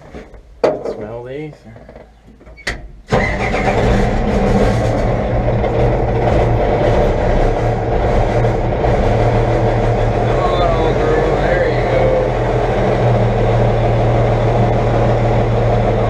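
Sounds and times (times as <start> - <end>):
diesel engine starting and running: 2.6 - 16.0.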